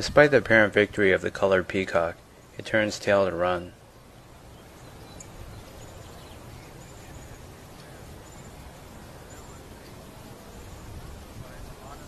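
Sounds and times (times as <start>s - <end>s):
outdoor background noise: 0.0s - 12.0s
small birds chirping: 0.4s - 12.0s.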